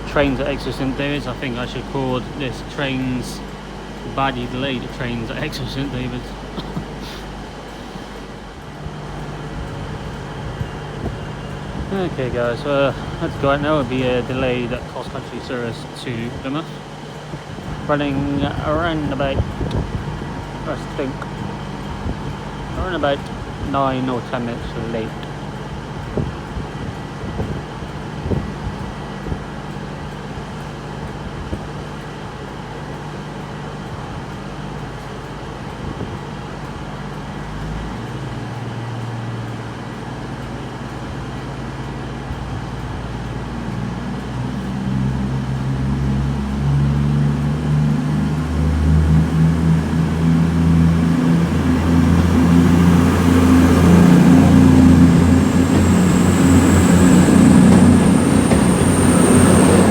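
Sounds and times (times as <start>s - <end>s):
diesel train engines revving: 0.0s - 59.9s.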